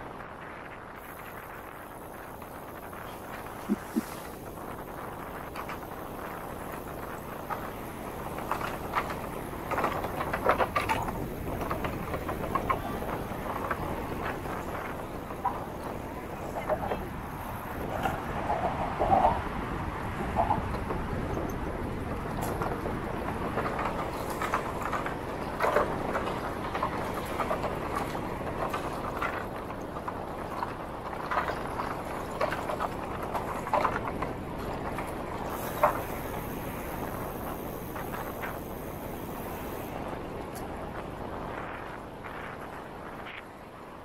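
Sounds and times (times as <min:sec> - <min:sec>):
bicycle rolling: 0:00.0 - 0:44.0
wind noise: 0:00.0 - 0:44.0
clacks from bicycle wheels and frame: 0:00.1 - 0:44.0.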